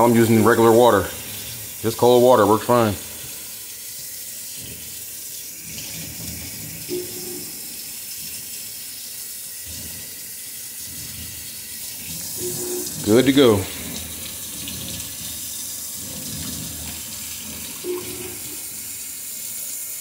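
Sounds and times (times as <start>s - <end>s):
faucet water splashing into sink: 0.0s - 20.0s.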